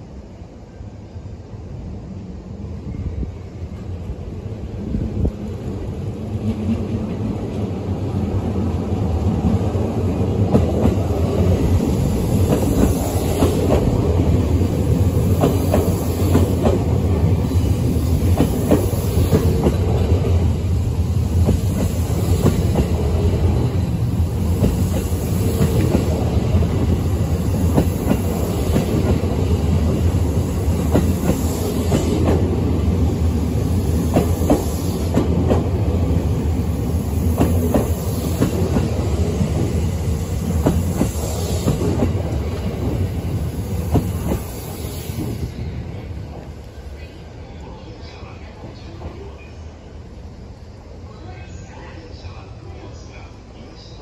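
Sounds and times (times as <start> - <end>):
train rumbling slowly past: 0.0 - 54.0.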